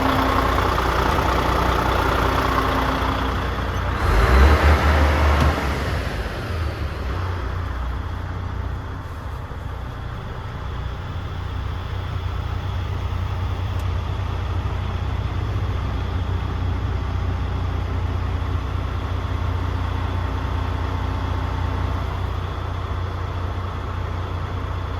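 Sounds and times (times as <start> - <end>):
truck diesel engine idling: 0.0 - 24.9.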